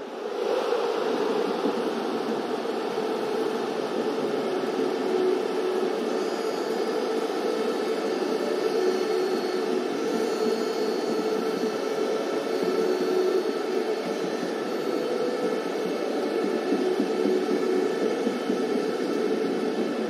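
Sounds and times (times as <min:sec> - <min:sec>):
faint hum: 0:00.0 - 0:20.0
steady hiss: 0:00.0 - 0:20.0.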